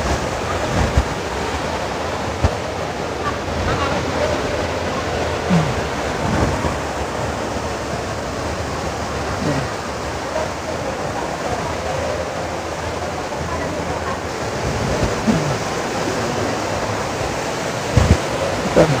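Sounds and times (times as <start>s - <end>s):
indoor waterfall rushing: 0.0s - 19.0s.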